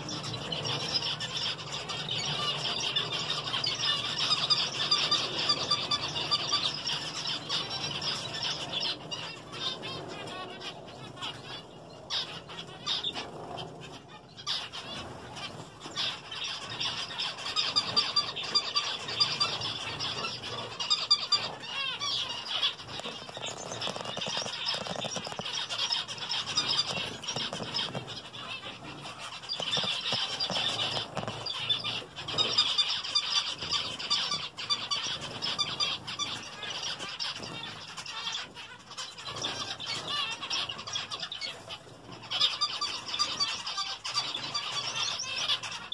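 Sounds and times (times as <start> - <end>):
wings fluttering: 0.0 - 41.8
finches calling: 0.0 - 45.9.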